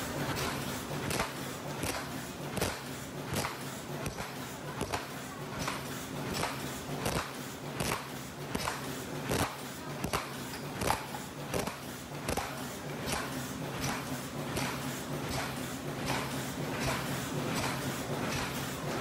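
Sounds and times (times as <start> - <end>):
sharp machine clacks: 0.0 - 19.0.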